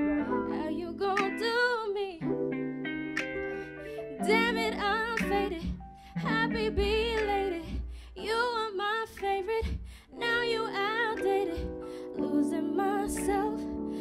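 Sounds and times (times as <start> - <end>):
woman singing into microphone: 0.0 - 2.3, 4.2 - 14.0.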